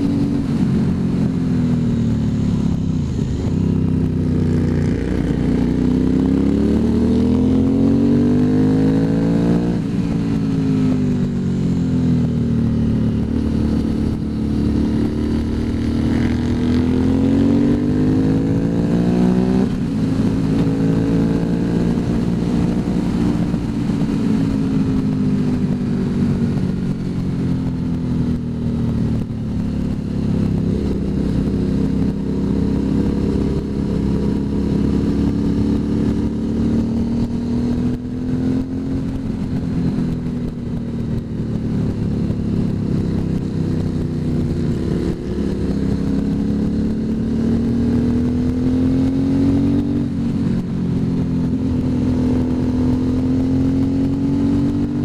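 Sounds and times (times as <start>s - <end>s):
motorcycle engine cruising: 0.0s - 55.0s
wind rumble: 0.0s - 55.0s.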